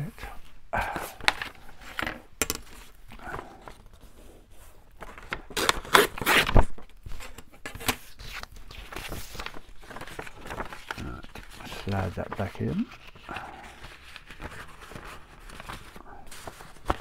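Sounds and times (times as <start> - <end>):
paper rustling and crinkling: 0.4 - 17.0.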